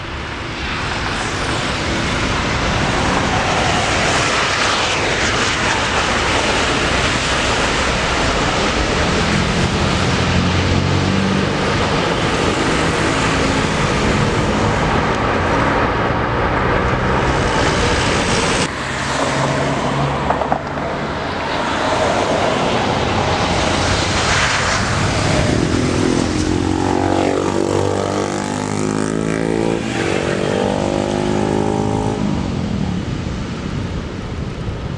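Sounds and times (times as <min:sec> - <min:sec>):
jet engine whine: 0:00.0 - 0:34.9
jet engines running loudly: 0:00.0 - 0:34.9.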